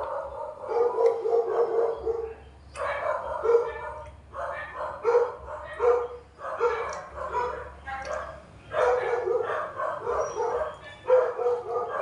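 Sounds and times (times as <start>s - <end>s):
dog barking and yipping: 0.0s - 12.0s.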